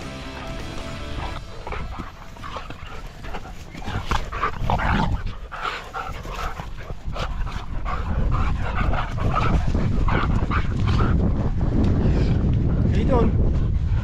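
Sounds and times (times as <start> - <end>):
dogs play-fighting: 0.0 - 14.0
wind rumble on microphone: 0.0 - 14.0.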